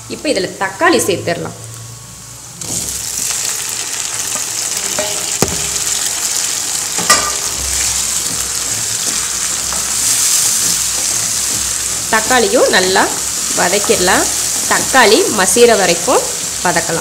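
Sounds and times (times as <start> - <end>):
tomatoes sizzling in oil: 2.6 - 17.0.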